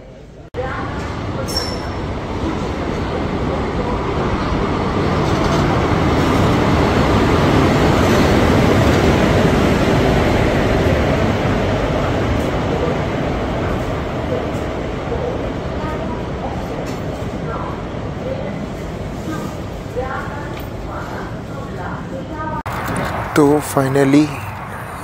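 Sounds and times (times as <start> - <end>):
train coaches rumbling past: 0.0 - 25.0.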